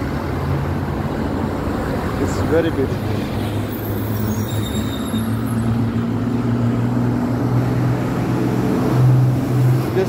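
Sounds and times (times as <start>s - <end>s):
road traffic noise: 0.0s - 10.0s
vehicle engine humming: 0.0s - 10.0s.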